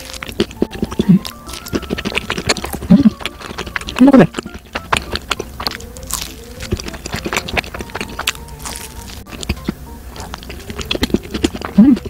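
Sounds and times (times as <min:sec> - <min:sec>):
chewing food: 0:00.0 - 0:12.0.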